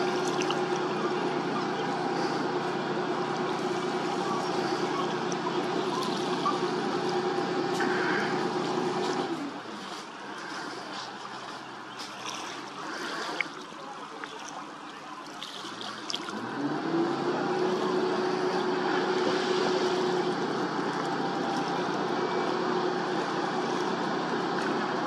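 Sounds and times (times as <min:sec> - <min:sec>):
tug engine running: 0:00.0 - 0:13.4, 0:16.3 - 0:25.0.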